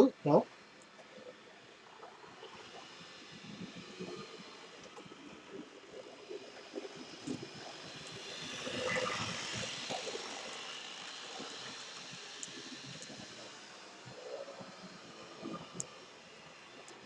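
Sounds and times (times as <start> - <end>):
model train motor whir: 0.0 - 17.0.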